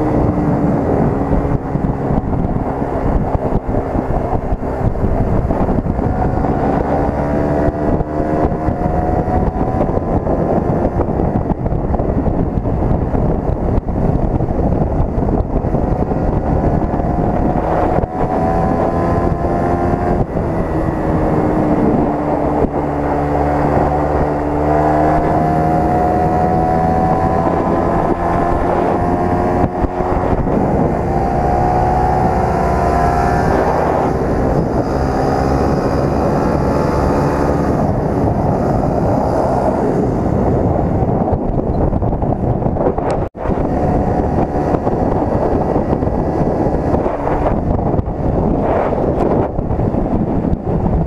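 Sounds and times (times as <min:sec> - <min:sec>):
motorcycle engine: 0:00.0 - 0:51.0
wind rushing over microphone: 0:00.0 - 0:51.0.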